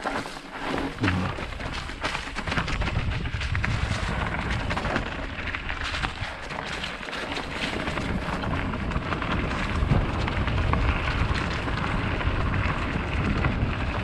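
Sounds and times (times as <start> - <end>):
bike tyres crunching on trail: 0.0 - 14.0
wind rumbling on microphone: 0.8 - 14.0.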